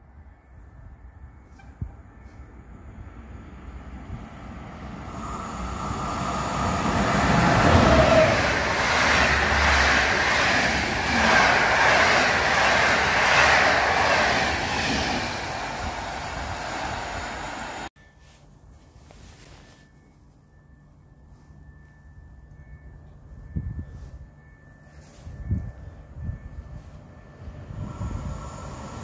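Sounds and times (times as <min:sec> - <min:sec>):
train passing at speed: 0:00.0 - 0:17.9, 0:21.3 - 0:29.0.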